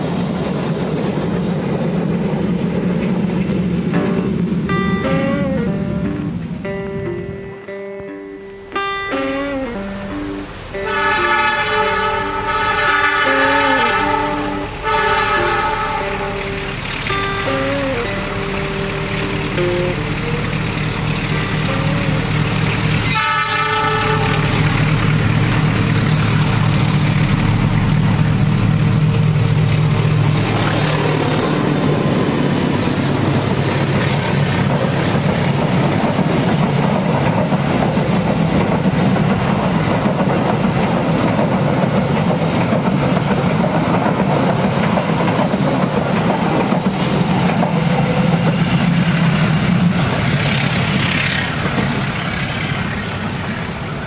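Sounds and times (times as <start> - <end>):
train wheels clattering on rails: 0.0 - 6.4, 12.6 - 54.0
locomotive engine humming: 0.0 - 54.0.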